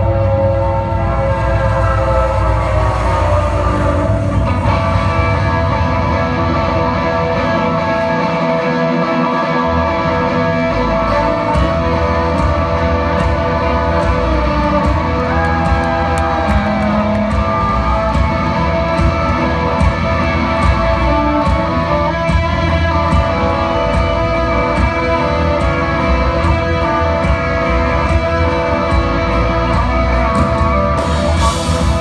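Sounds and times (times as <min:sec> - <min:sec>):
guitar: 0:00.0 - 0:32.0
live country band: 0:00.0 - 0:32.0.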